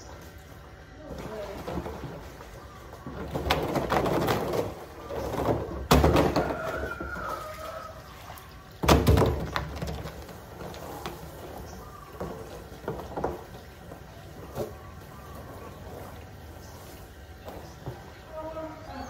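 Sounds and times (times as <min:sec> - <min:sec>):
hose water splashing in plastic drum: 0:00.0 - 0:19.0.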